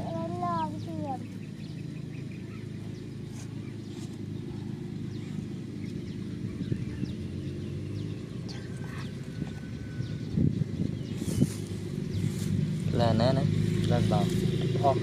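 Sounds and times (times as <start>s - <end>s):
birds chirping: 0.0s - 15.0s
vehicle engine droning: 0.0s - 15.0s.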